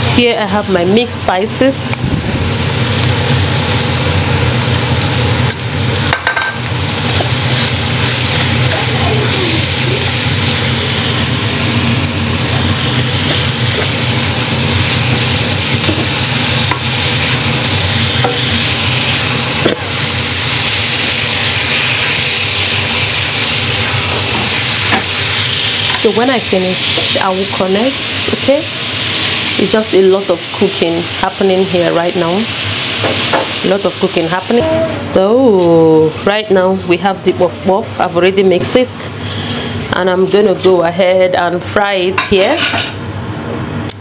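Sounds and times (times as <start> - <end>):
rice sizzling in a frying pan: 0.0 - 38.3
steady low hum: 0.0 - 42.2.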